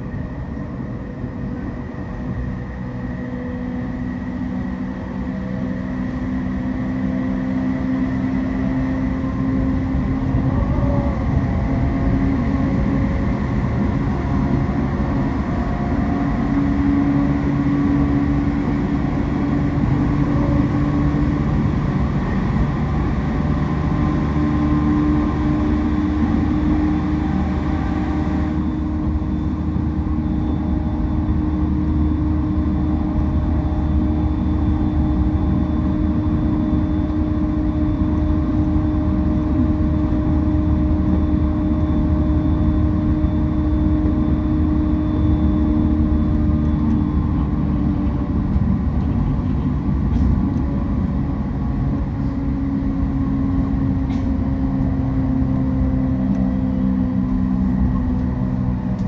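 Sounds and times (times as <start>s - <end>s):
traction motor whine: 0.0s - 59.0s
train wheels rumbling on rail: 0.0s - 59.0s.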